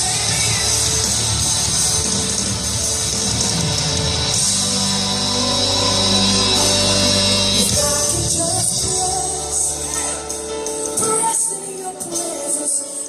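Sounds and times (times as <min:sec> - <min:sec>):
live band playing worship song: 0:00.0 - 0:13.0.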